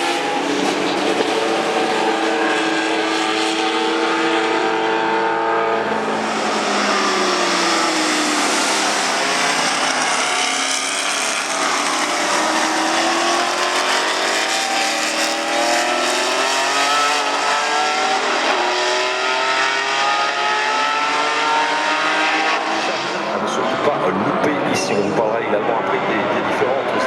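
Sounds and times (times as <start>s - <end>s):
racing engine accelerating: 0.0s - 27.0s.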